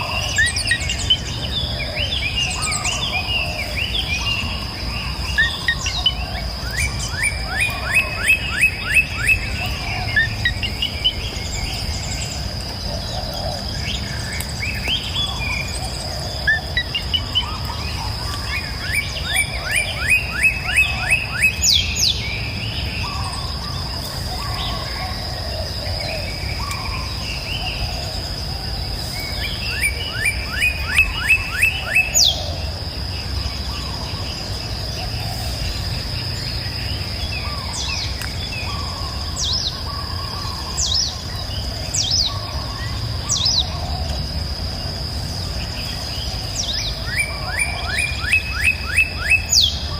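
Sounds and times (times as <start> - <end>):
insect drone: 0.0 - 49.9
songbirds singing: 0.0 - 49.9.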